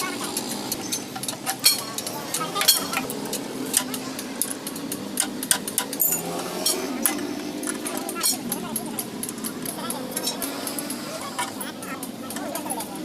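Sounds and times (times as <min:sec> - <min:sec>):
indistinct voices: 0:00.0 - 0:13.0
metallic hand tool clicks and knocks: 0:00.0 - 0:13.0.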